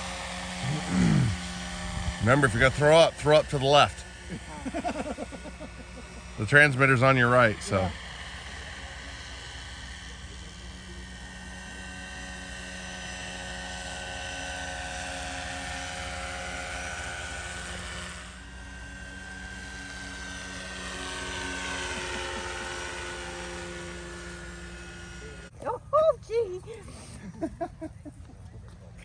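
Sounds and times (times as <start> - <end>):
model helicopter whine: 0.0 - 29.0
rotor hum: 0.0 - 29.0.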